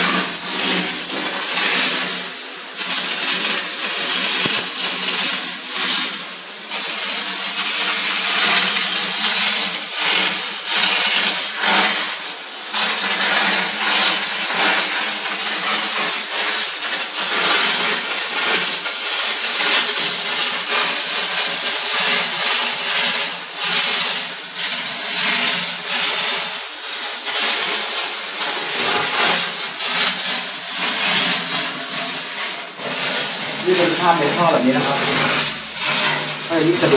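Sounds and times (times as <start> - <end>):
steam cleaner hissing: 0.0 - 36.9.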